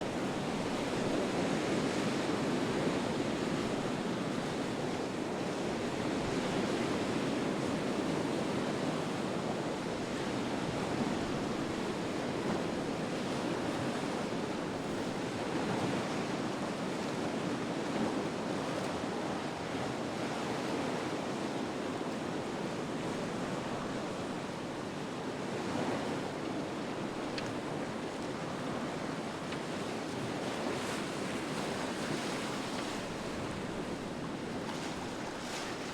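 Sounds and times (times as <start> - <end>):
waves and surf rushing: 0.0 - 35.9.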